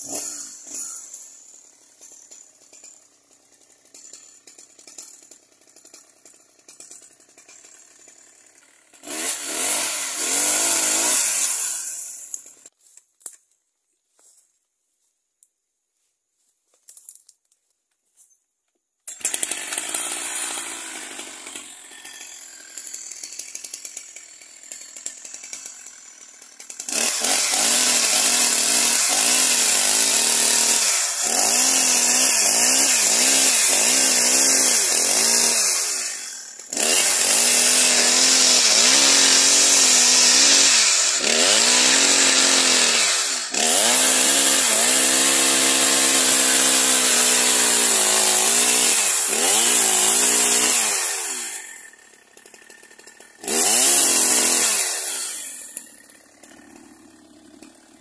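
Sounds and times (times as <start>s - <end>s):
chainsaw cutting branch: 0.0s - 13.4s, 19.0s - 58.0s
chainsaw engine: 0.0s - 13.4s, 19.0s - 58.0s.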